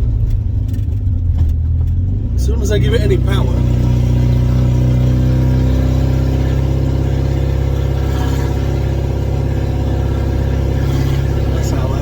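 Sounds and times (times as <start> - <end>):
pickup engine running: 0.0 - 12.0
loud exhaust: 2.0 - 12.0.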